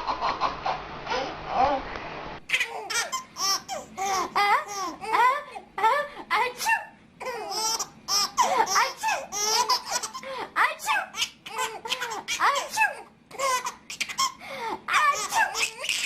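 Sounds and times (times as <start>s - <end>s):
baby giggling: 2.5s - 6.0s, 6.6s - 16.0s.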